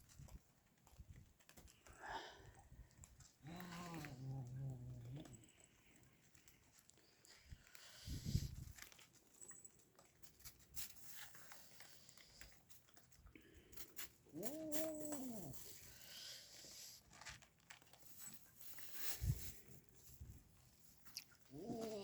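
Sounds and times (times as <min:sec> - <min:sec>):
faint clicks and rustles: 0:00.0 - 0:22.0.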